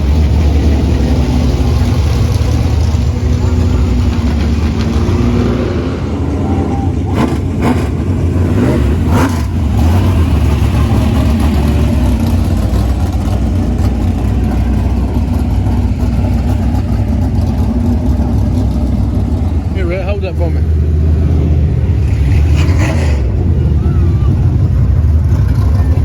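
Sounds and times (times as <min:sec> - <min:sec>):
race car engines running: 0:00.0 - 0:26.0.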